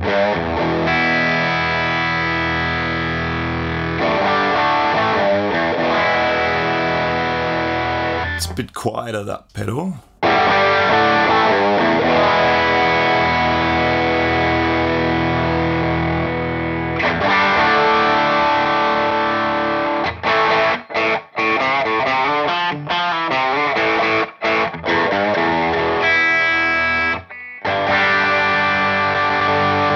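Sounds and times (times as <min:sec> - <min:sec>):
distorted electric guitar chords: 0:00.0 - 0:08.4, 0:10.2 - 0:20.8, 0:23.4 - 0:29.9.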